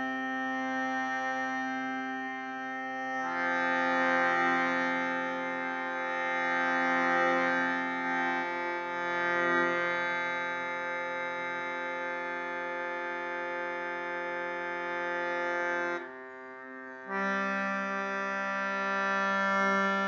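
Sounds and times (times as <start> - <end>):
shruti box reed drone: 0.0 - 20.0.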